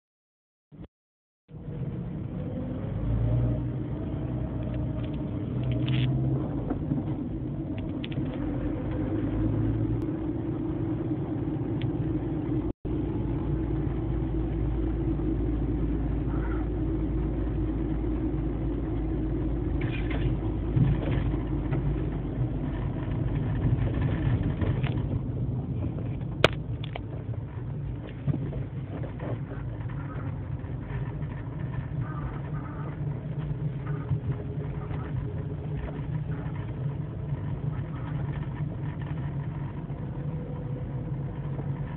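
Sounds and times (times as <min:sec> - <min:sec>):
car engine low rumble: 0:01.5 - 0:41.9.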